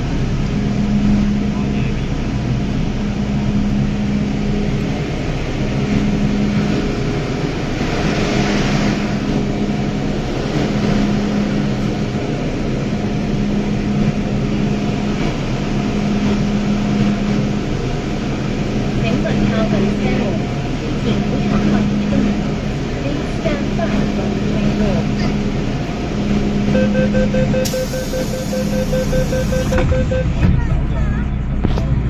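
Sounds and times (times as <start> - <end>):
train car hum: 0.0 - 32.0.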